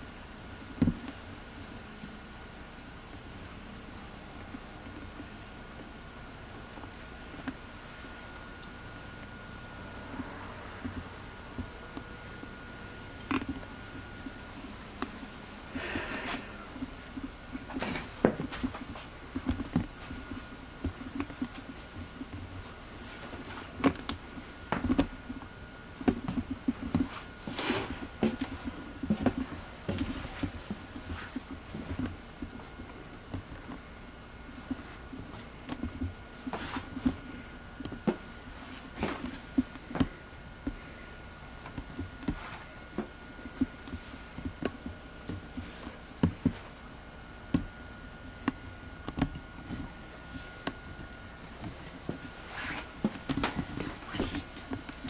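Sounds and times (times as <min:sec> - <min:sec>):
faint high whine: 0:00.0 - 0:55.0
footsteps and knocks in a room: 0:09.2 - 0:55.0.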